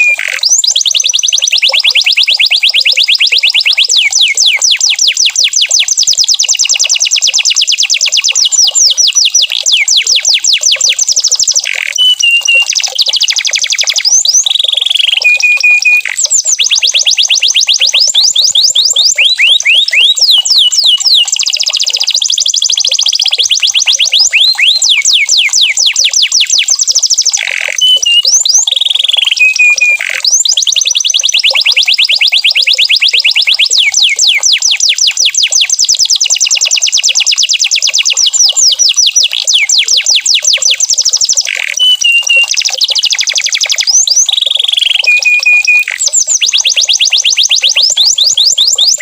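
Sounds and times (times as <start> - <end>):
canary singing trills: 0.0 - 49.0
canary whistled notes: 0.0 - 49.0.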